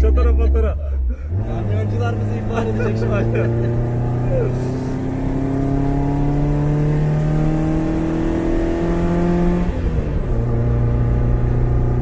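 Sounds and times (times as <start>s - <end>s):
car engine revving under load: 0.0s - 12.0s.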